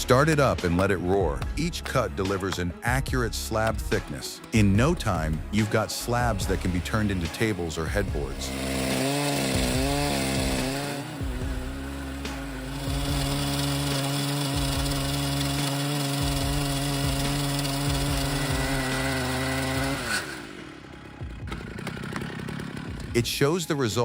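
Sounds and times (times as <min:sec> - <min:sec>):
chainsaw cutting log: 0:00.0 - 0:23.8.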